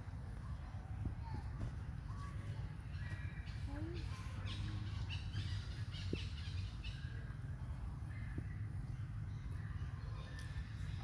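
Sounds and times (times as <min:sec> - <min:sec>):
bird chirps: 0:02.2 - 0:11.0.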